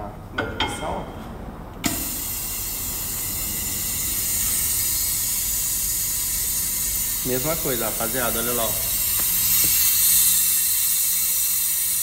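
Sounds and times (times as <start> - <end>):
steady hiss of air: 1.8 - 12.0.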